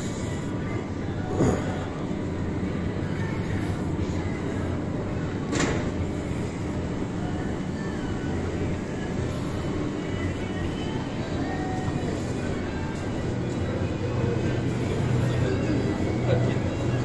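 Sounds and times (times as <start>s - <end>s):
steady rumbling hum: 0.0s - 17.0s.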